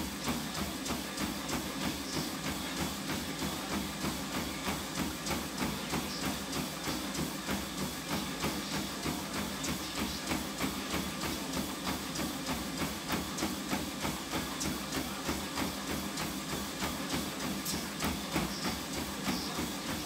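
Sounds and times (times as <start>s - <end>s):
footfalls on treadmill belt: 0.0s - 20.0s
treadmill running hum: 0.0s - 20.0s.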